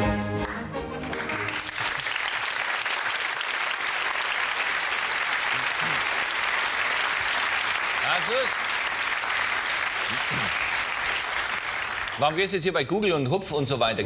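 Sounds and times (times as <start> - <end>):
studio audience applauding: 0.3 - 12.8.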